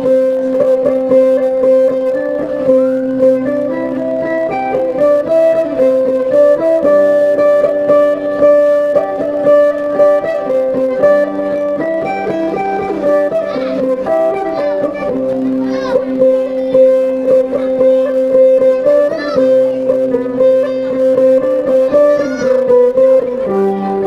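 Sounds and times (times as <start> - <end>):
plucked lute dance music: 0.0 - 24.0.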